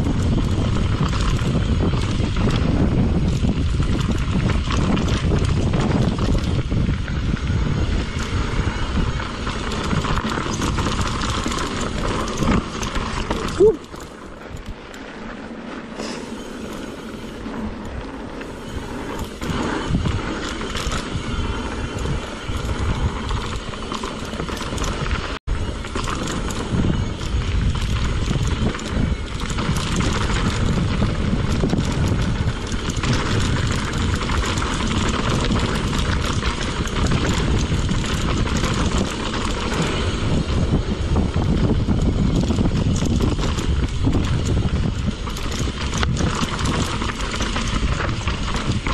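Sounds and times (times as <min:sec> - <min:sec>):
bike rattling over dirt trail: 0:00.0 - 0:48.9
wind rumble on microphone: 0:00.0 - 0:48.9.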